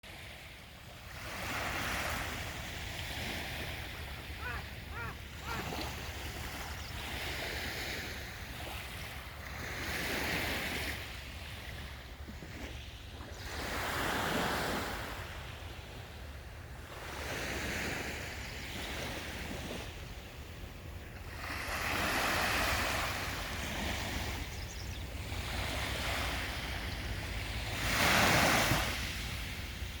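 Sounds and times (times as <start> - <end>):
sea waves breaking on shore: 0.1 - 15.7, 16.8 - 30.0.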